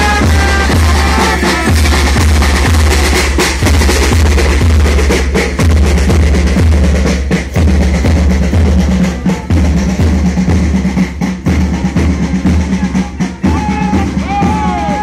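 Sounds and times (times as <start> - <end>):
marching band drums: 0.0 - 15.0.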